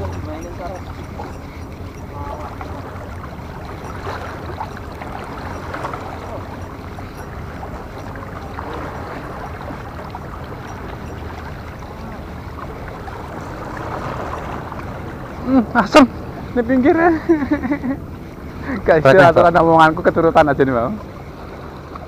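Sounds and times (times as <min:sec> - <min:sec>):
low steady hum: 0:00.0 - 0:22.0
water wash: 0:00.0 - 0:22.0
wind noise: 0:00.0 - 0:22.0.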